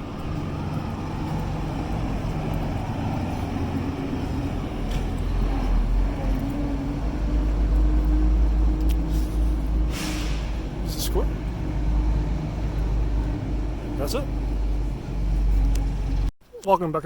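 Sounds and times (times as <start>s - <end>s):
vehicle engine rumbling: 0.0s - 16.3s.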